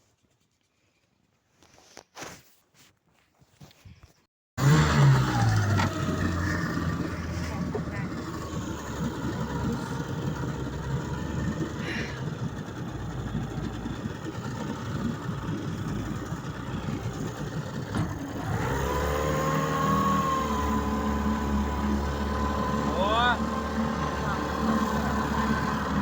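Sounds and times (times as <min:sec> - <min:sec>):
outboard motor running: 0:04.6 - 0:26.0.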